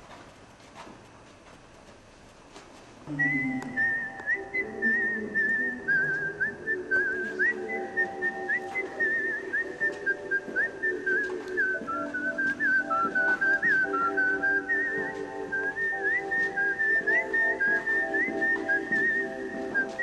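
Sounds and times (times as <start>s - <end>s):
whistled melody: 3.1s - 20.0s.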